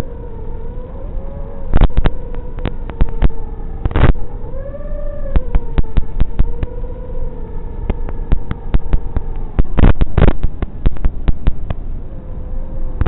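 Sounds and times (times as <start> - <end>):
drone propellers whining: 0.0 - 13.0
wind buffeting: 0.0 - 13.0.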